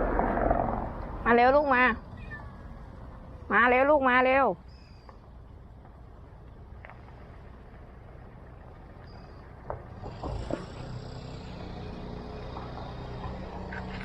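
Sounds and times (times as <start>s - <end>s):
low outdoor rumble: 0.0s - 14.0s
vehicle engine hum: 0.0s - 14.0s.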